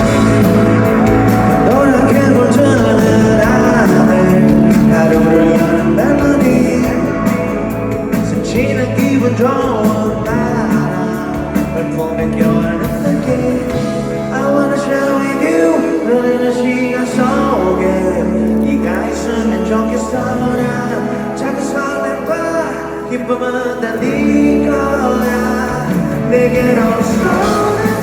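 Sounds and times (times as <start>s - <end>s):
live rock band playing: 0.0s - 28.0s
melodic lead guitar line: 0.0s - 28.0s.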